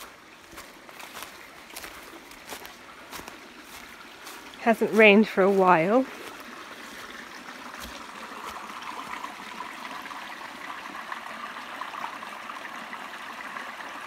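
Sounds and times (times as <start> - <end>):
creek trickling over rocks: 0.0 - 14.0.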